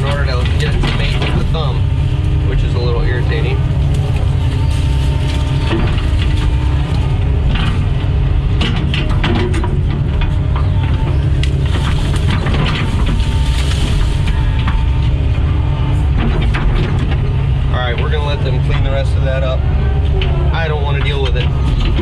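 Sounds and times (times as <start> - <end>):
excavator diesel engine under load: 0.0 - 22.0
wood cracking and crunching: 0.0 - 22.0.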